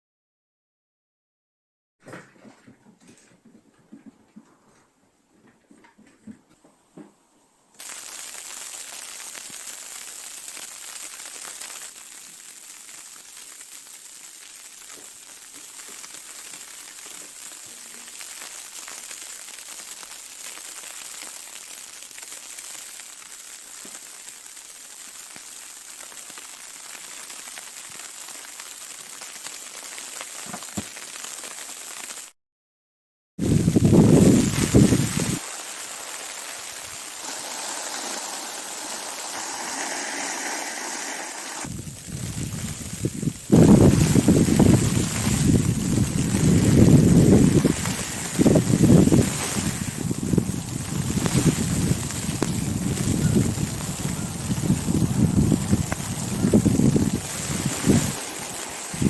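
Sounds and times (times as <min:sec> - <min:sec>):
pattering hiss of falling snow: 0:07.8 - 0:32.4, 0:33.4 - 0:59.0.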